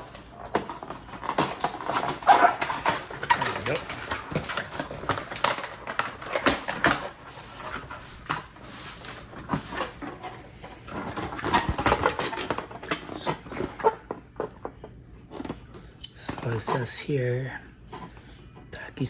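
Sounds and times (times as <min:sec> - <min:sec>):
packaging crinkling and rustling: 0:00.0 - 0:17.1.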